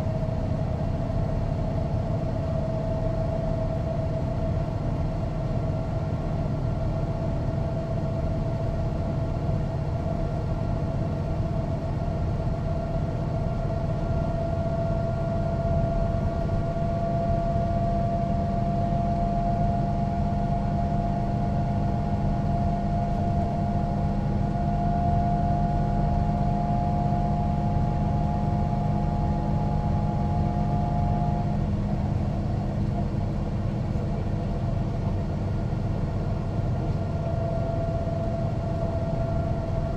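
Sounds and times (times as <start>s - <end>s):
bus diesel engine rumble: 0.0s - 39.9s.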